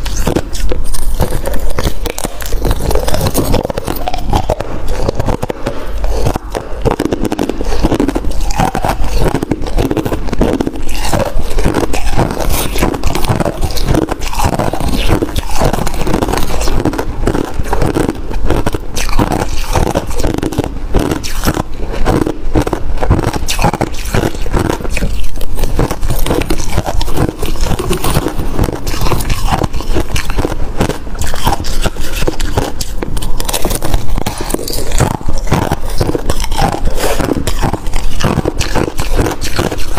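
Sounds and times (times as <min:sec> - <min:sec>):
frost being bitten and chewed: 0:00.0 - 0:39.9
metal spoon scraping frost: 0:00.0 - 0:39.9.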